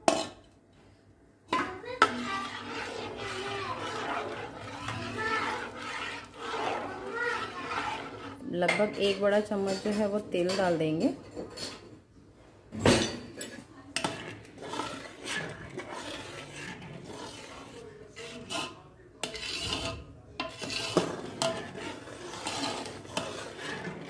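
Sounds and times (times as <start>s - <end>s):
metal spoon scraping a pot: 0.0s - 0.6s, 1.5s - 12.0s, 13.0s - 24.0s.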